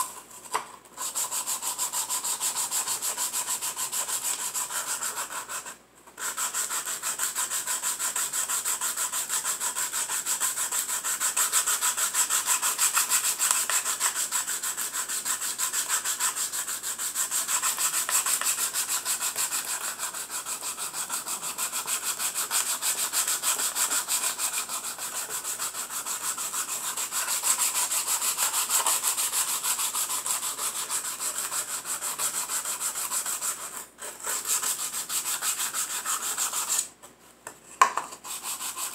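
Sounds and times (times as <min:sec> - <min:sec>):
sandpaper rubbing on wood: 0:01.0 - 0:36.9, 0:38.2 - 0:38.9.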